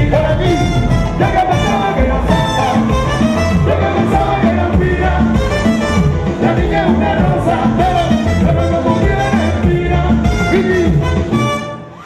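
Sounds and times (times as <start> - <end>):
steady bass beat: 0.0 - 11.6
live latin band music: 0.0 - 12.0
trumpet: 0.0 - 12.0.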